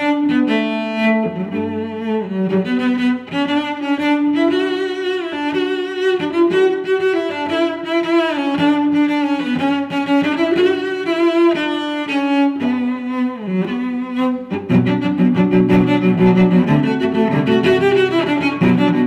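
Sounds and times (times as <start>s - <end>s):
bowed strings melody: 0.0s - 19.0s.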